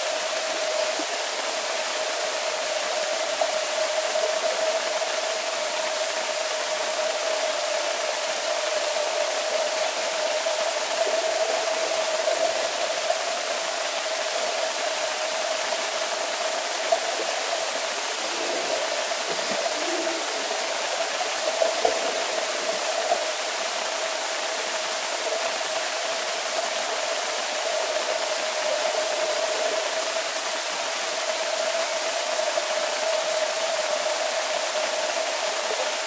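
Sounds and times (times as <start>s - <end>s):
swimming pool rushing noise: 0.0s - 36.0s.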